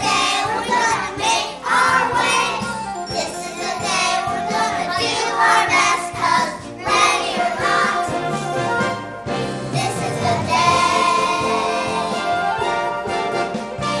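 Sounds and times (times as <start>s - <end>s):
young children singing: 0.0s - 8.8s, 9.7s - 12.8s.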